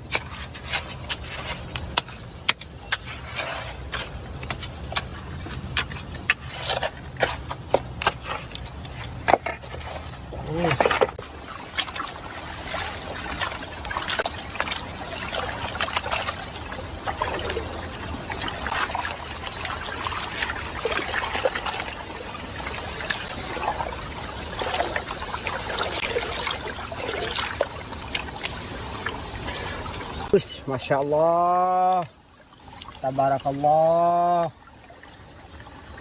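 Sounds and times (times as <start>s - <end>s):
water trickling and splashing: 0.0s - 36.0s.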